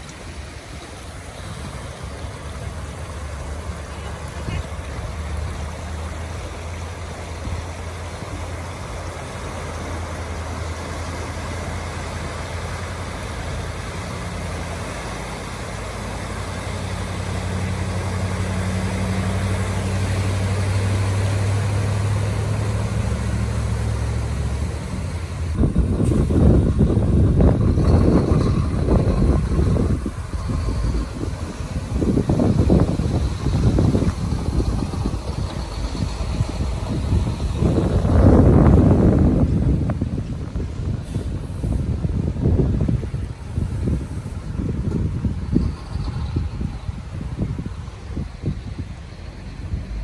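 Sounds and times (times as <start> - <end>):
rushing water: 0.0 - 50.0
truck engine running: 0.0 - 50.0
wind buffeting microphone: 0.0 - 50.0.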